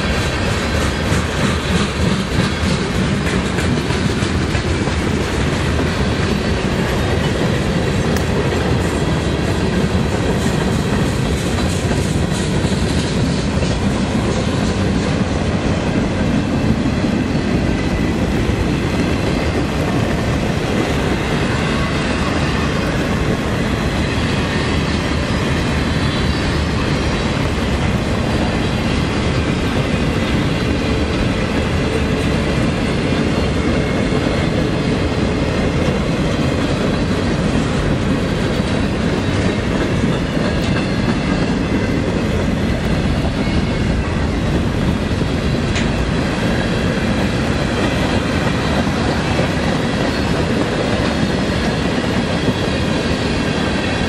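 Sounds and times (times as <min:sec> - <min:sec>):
freight train rumbling past: 0:00.0 - 0:54.0
wheels clickety-clack: 0:00.0 - 0:54.0.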